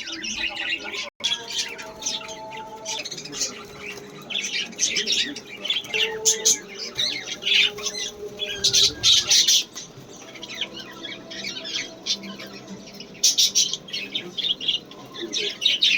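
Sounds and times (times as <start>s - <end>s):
lovebird chicks squawking: 0.0s - 15.9s.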